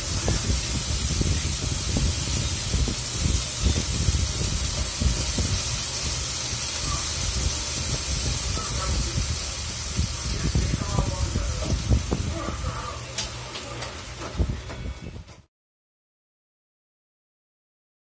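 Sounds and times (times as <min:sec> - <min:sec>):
garlic sizzling in oil: 0:00.0 - 0:14.5.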